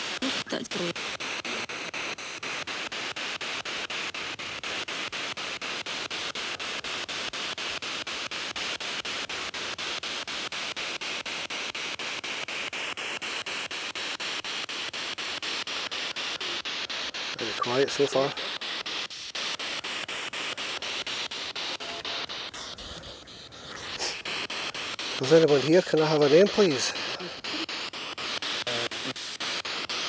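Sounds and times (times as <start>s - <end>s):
pulsing radio static: 0.0s - 30.0s.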